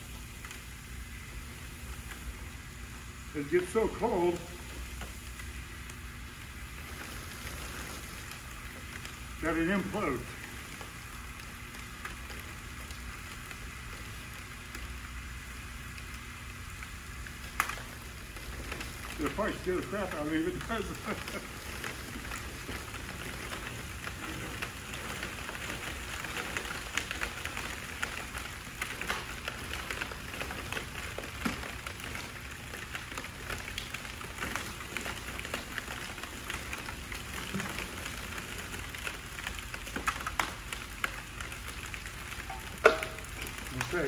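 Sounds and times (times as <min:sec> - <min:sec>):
liquid nitrogen crackling hiss: 0:00.0 - 0:44.0.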